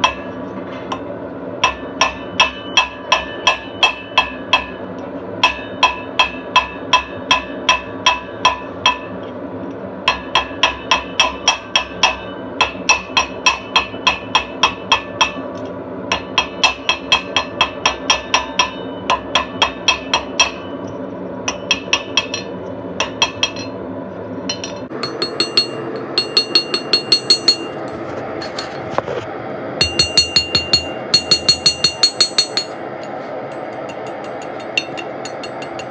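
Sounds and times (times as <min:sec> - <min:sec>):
hammer ringing on anvil: 0:00.0 - 0:01.0, 0:01.6 - 0:09.2, 0:10.1 - 0:15.5, 0:16.1 - 0:20.8, 0:21.5 - 0:23.8, 0:24.5 - 0:28.8, 0:29.8 - 0:32.8, 0:33.5 - 0:35.9.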